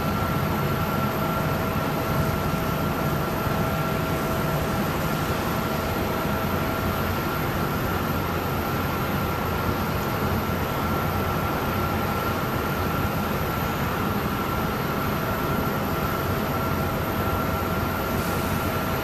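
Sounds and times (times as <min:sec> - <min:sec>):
constant high whine: 0:00.0 - 0:19.0.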